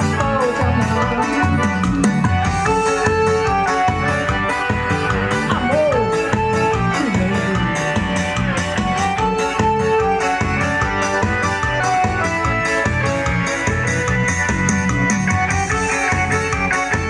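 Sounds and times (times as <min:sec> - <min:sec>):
band playing live: 0:00.0 - 0:17.0
drums keeping a beat: 0:00.0 - 0:17.0
guitar: 0:00.0 - 0:17.0.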